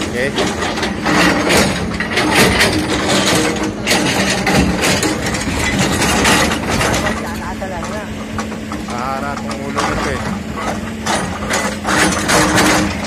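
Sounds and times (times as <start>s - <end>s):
hydraulic breaker hammering rock: 0.0s - 13.0s.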